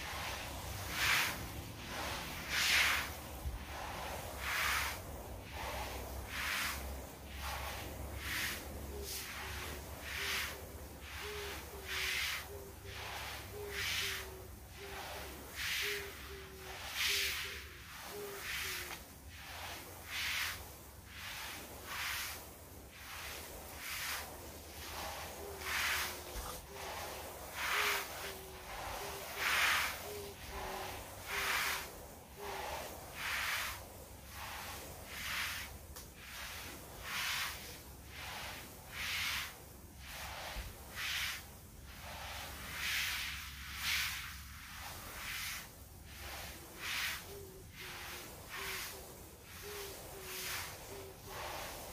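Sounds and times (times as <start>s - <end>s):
water sprinkler hissing: 0.0s - 51.9s.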